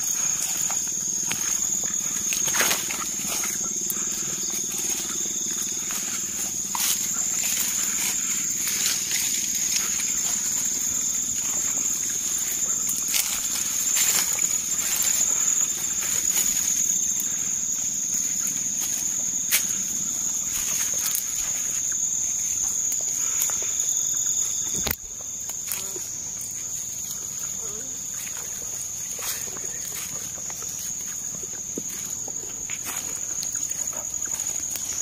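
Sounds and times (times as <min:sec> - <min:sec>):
footsteps through undergrowth: 0:00.0 - 0:35.0
night insects chirring: 0:00.0 - 0:35.0.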